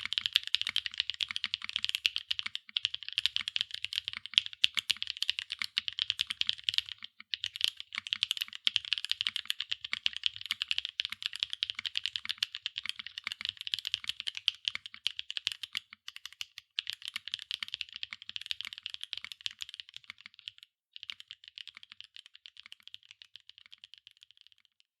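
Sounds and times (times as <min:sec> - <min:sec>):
fast mechanical keyboard typing: 0:00.0 - 0:24.8.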